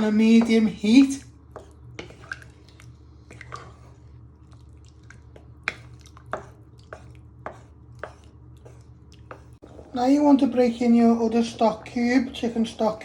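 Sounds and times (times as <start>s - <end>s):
spoon stirring wet sauce: 0.0s - 13.0s.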